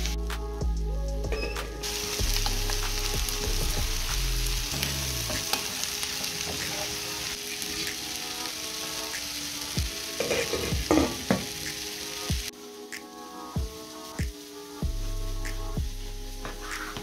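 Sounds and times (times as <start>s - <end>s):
onions sizzling in a pan: 1.8s - 17.0s.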